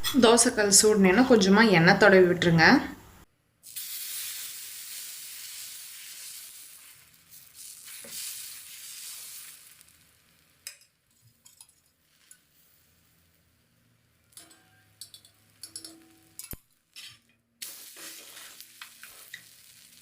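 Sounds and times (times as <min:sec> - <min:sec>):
batter sizzling on hot pan: 0:03.6 - 0:20.0.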